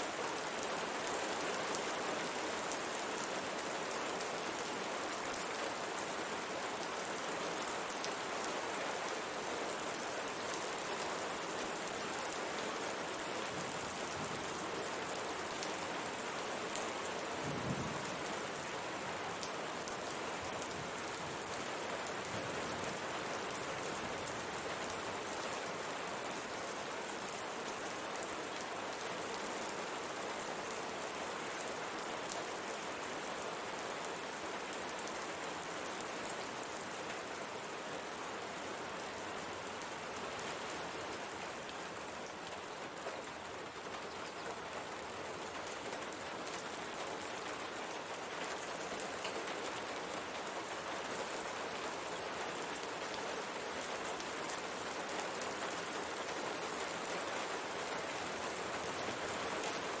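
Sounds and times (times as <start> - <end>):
rain pattering on a window: 0.0 - 60.0.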